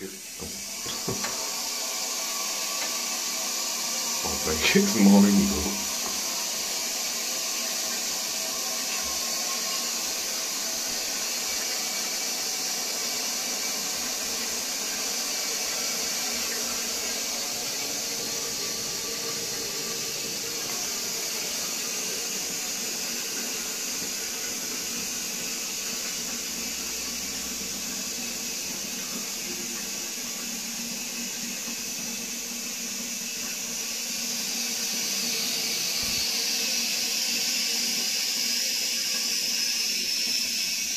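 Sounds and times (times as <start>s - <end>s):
toilet cistern refilling hiss: 0.0s - 40.9s.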